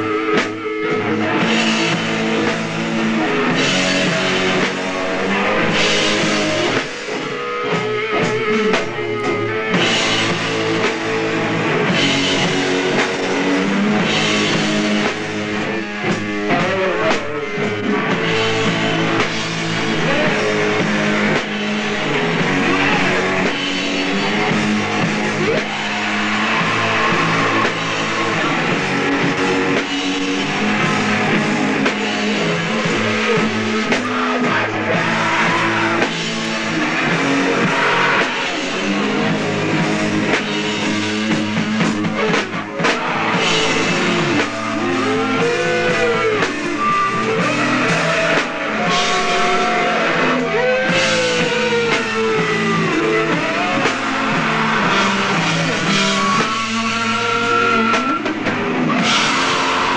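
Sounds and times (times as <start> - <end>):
punk band playing live: 0.0 - 59.9.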